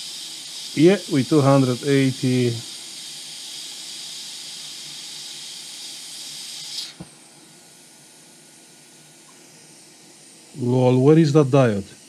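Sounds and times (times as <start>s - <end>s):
hot-air nozzle hissing: 0.0s - 12.0s.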